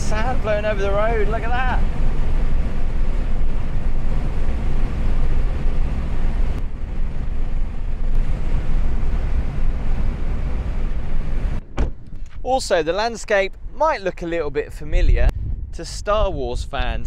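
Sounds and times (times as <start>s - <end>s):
car road and engine rumble: 0.0s - 15.9s.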